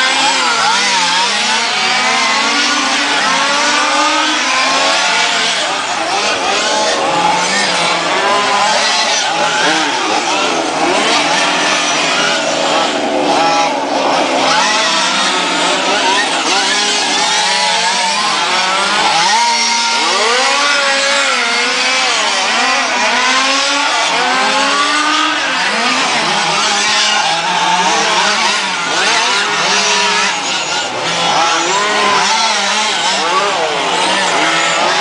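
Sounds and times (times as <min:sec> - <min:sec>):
model race car engines revving: 0:00.0 - 0:35.0.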